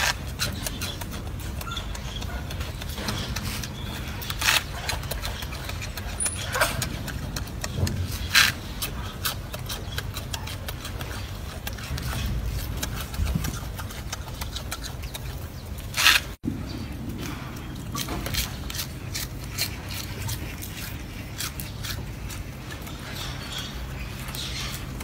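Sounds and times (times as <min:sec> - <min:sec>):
monkey crunching greens: 0:00.0 - 0:25.0
steady low rumble: 0:00.0 - 0:25.0.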